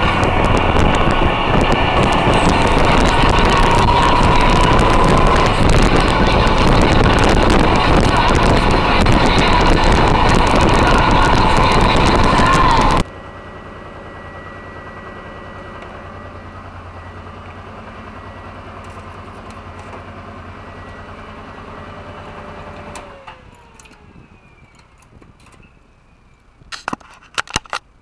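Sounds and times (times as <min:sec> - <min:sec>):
motorcycle engine running: 0:00.0 - 0:22.8.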